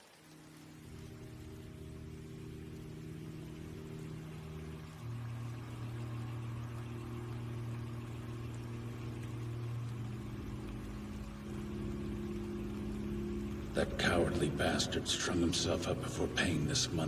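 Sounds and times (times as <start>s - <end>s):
low sustained music chords: 0.0s - 17.0s.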